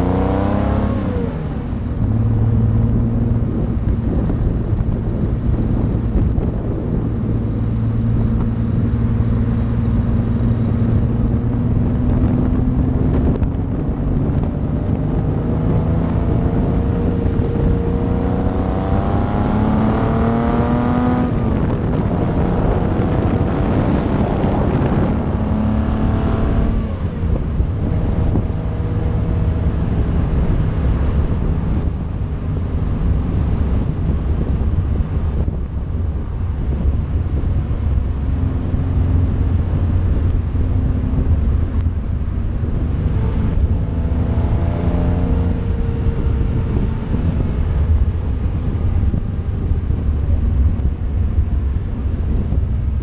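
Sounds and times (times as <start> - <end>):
car engine and exhaust: 0.0 - 53.0
low road rumble: 0.0 - 53.0.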